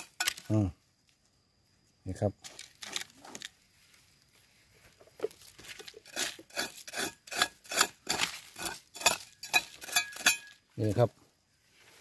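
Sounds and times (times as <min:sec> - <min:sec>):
scraping in gritty soil: 0:02.1 - 0:12.0.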